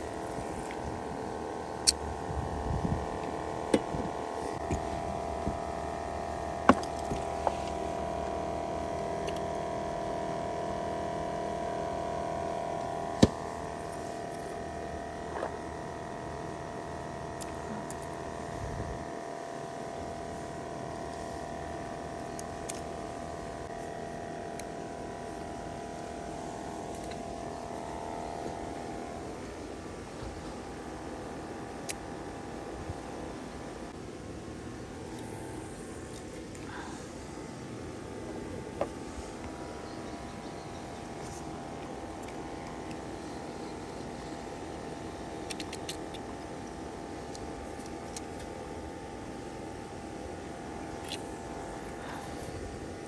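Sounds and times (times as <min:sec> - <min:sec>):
outboard motor droning: 0:00.0 - 0:53.0.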